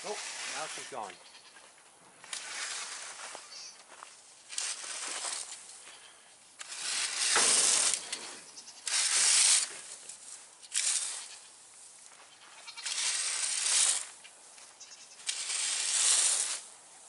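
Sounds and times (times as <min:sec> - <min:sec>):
hissing rustling noise: 0:00.0 - 0:01.2, 0:02.2 - 0:17.0.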